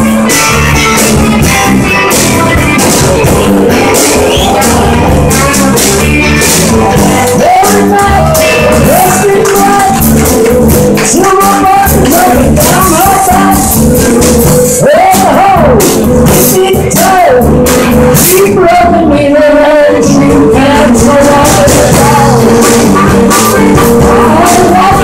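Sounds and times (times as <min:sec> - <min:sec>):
lead guitar bending notes: 0:00.0 - 0:19.0, 0:19.8 - 0:25.0
blues rock band playing: 0:00.0 - 0:25.0.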